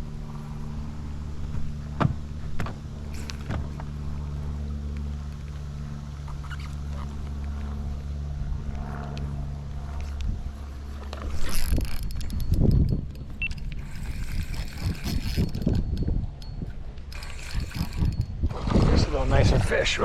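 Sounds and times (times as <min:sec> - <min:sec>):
boat motor humming: 0:00.0 - 0:19.3.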